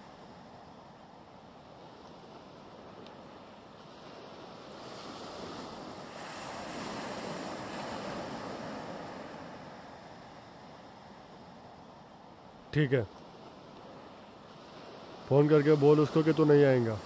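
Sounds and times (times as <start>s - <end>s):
sea waves on rocky shore: 0.0s - 17.0s.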